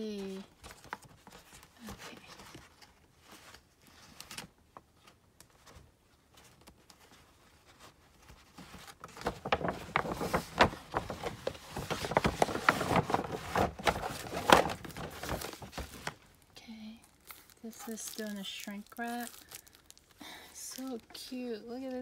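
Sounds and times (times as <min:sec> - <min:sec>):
paper bags rustling: 0:00.0 - 0:21.0.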